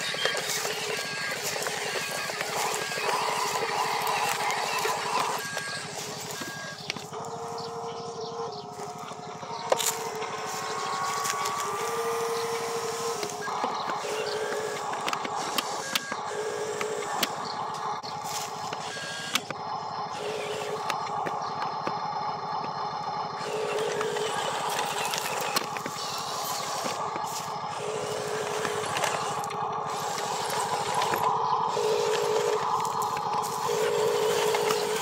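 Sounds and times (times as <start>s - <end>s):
small electric motors whining: 0.0s - 35.0s.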